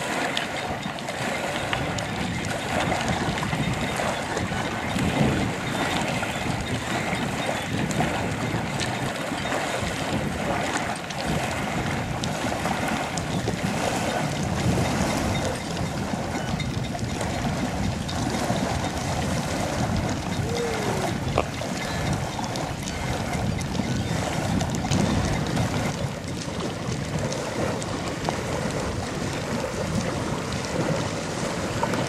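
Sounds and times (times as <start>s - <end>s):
waves lapping against concrete: 0.0s - 32.0s
wind on microphone: 0.0s - 32.0s.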